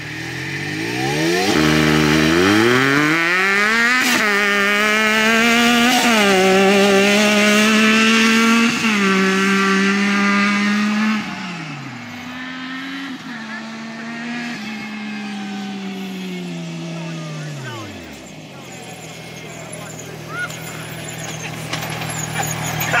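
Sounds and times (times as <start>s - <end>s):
engine accelerating hard: 0.0s - 23.0s.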